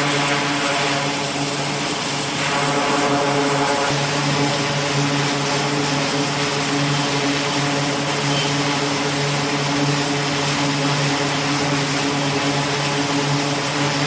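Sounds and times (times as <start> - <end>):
turboprop propeller drone: 0.0 - 14.0.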